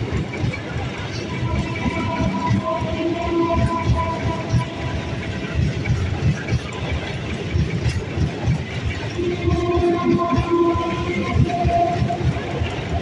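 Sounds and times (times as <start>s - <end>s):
train wheels rumbling on rails: 0.0s - 13.0s
train whine: 0.0s - 13.0s.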